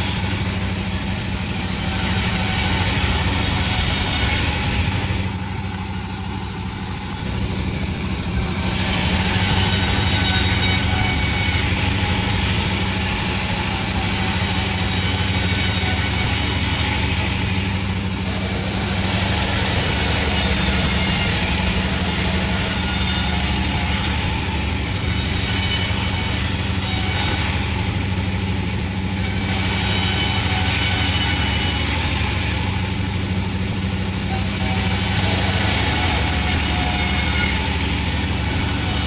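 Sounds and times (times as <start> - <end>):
rough cutting noise: 0.0 - 39.0
sawmill engine hum: 0.0 - 39.0.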